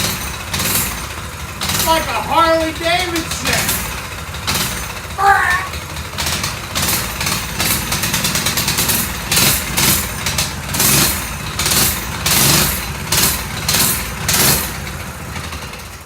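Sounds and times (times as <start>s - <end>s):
small engine idling unevenly: 0.0s - 16.0s.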